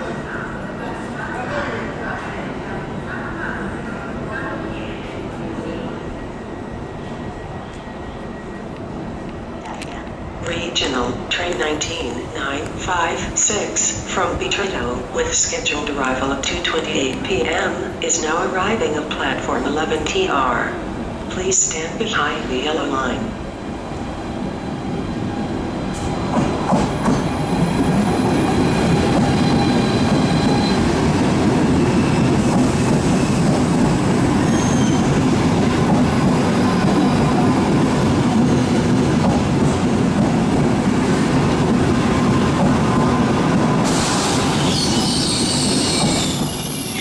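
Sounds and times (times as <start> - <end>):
train wheels rumbling on rail: 0.9 - 47.0.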